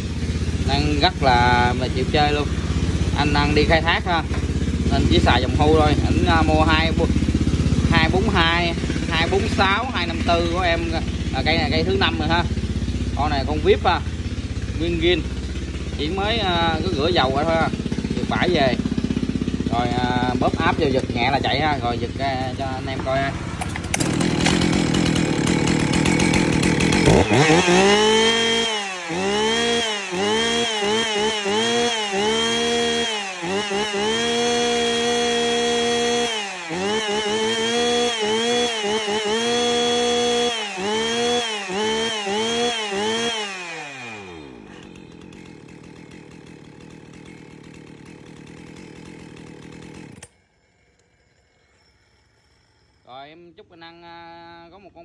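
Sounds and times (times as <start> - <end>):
chainsaw revving: 0.0 - 53.2.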